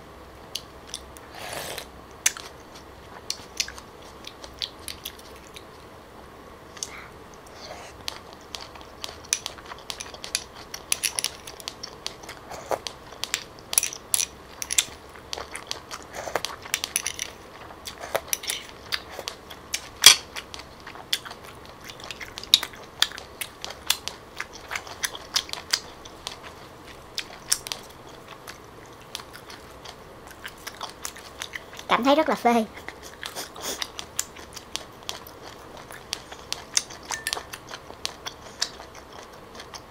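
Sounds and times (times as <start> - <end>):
chewing and crunching: 0.5 - 5.9, 6.7 - 32.0, 32.7 - 39.9.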